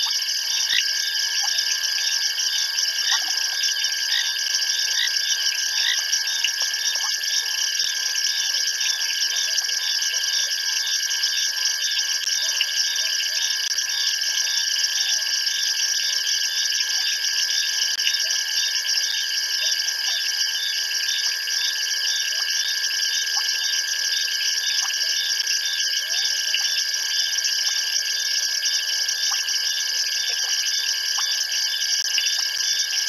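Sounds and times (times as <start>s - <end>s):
frogs and insects trilling: 0.0s - 33.0s.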